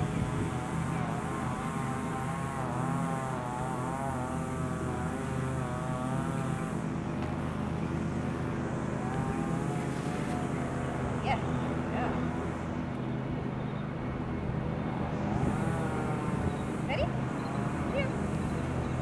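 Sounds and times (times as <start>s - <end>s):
high wavering whine: 0.0s - 19.0s
steady engine drone: 0.0s - 19.0s.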